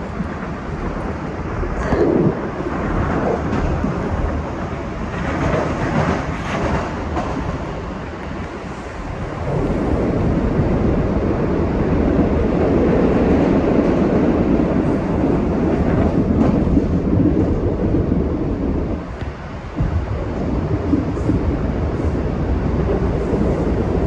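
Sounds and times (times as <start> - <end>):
subway wheels rumbling on rails: 0.0 - 24.0.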